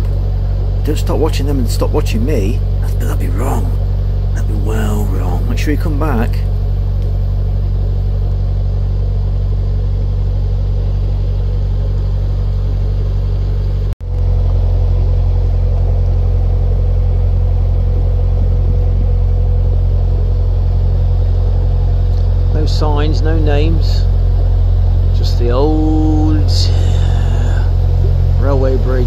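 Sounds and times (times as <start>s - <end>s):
diesel boat engine droning: 0.0s - 29.0s
thin steady whine: 0.0s - 29.0s.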